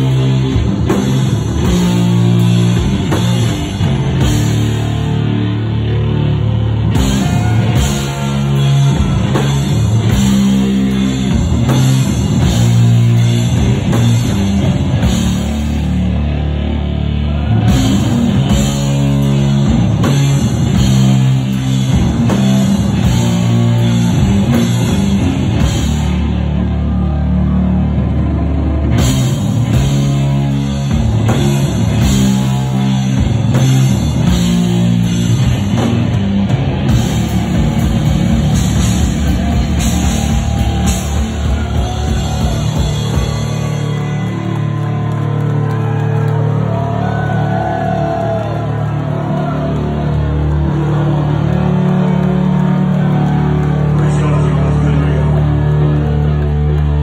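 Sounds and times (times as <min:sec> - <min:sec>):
drum kit: 0:00.0 - 0:54.8
distorted guitar and bass riffing: 0:00.0 - 0:57.0.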